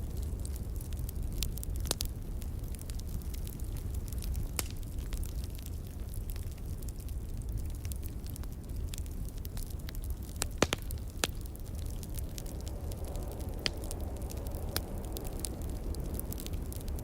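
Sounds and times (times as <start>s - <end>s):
log fire crackling and popping: 0.0s - 17.0s
low rumble of wind: 0.0s - 17.0s.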